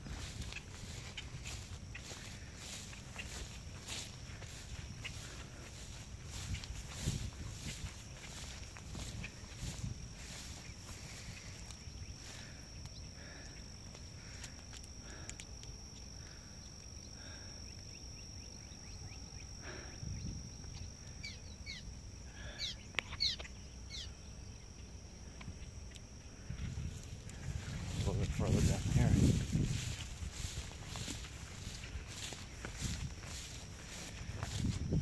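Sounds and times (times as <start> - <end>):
thin high-pitched whine: 0.0 - 35.0.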